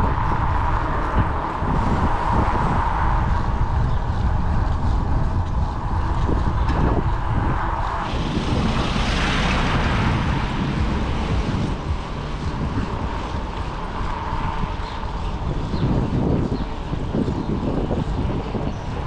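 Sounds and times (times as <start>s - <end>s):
passing car tyre noise: 0.0s - 19.0s
road rumble: 0.0s - 19.0s
wind buffeting microphone: 0.0s - 19.0s.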